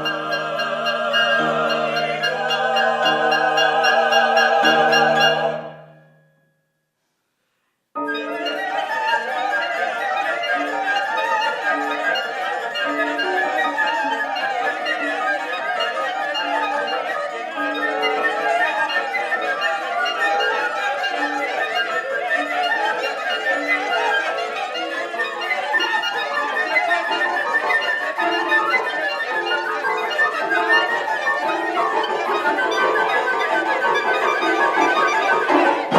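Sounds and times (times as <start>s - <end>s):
contemporary chamber ensemble music: 0.0s - 6.2s, 8.0s - 35.9s.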